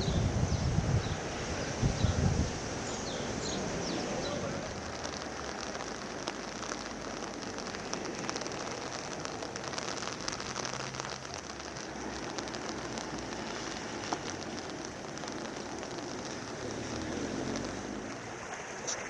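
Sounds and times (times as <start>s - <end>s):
steady rain on wet surfaces: 0.0s - 19.0s.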